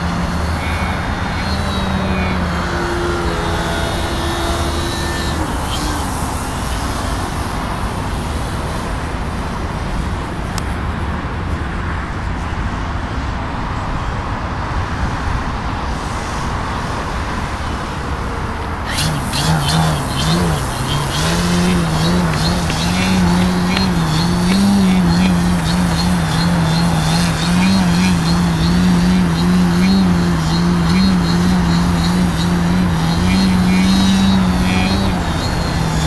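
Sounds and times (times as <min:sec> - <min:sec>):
model plane engine and propeller: 0:00.0 - 0:36.0.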